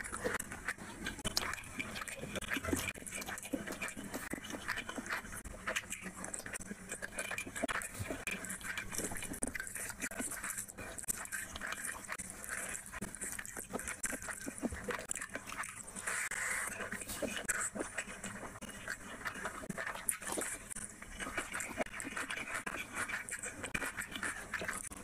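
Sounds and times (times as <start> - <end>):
wet chewing and lip smacking: 0.0 - 25.0.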